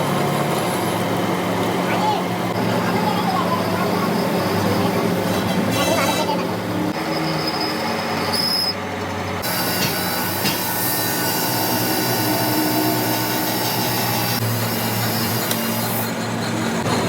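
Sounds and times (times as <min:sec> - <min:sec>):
machinery humming and whining: 0:00.0 - 0:17.0.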